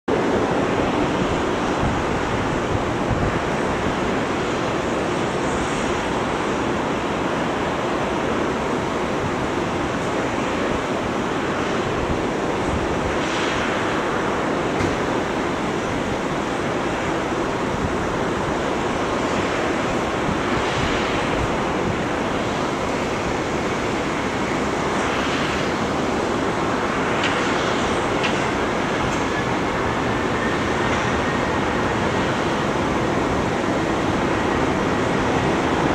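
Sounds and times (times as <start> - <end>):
distant jet engines roaring: 0.0 - 35.9.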